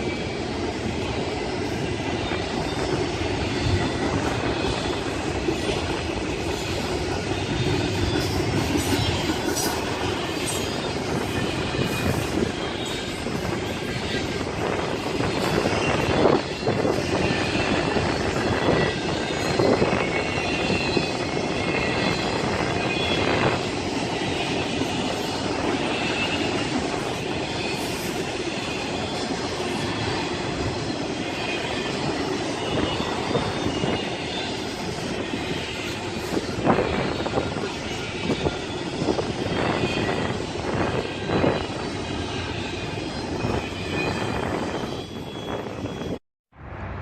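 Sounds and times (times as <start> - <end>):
train wheels squealing: 0.0 - 46.2
train cars rumbling past: 0.0 - 47.0.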